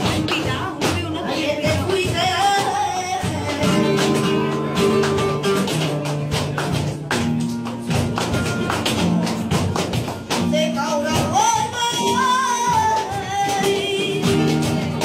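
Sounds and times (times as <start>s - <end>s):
flamenco guitar playing: 0.0s - 15.0s
rhythmic hand clapping: 0.0s - 15.0s.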